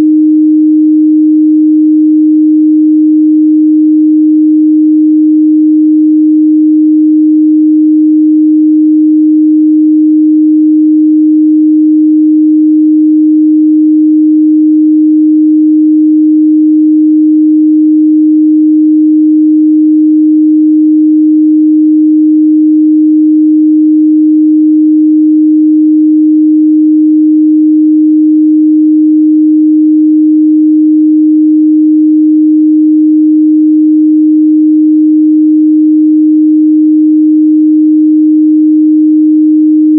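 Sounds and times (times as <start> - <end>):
sine test tone: 0.0 - 39.9.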